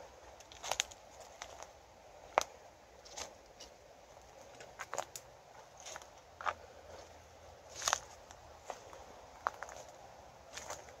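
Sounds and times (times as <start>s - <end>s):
footsteps crunching leaves and twigs: 0.2s - 11.0s.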